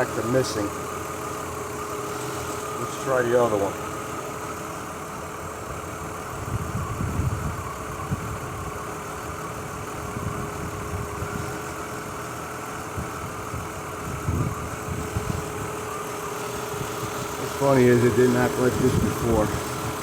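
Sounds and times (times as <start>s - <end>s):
car engine idling roughly: 0.0s - 20.0s
faint steady whine: 0.0s - 20.0s.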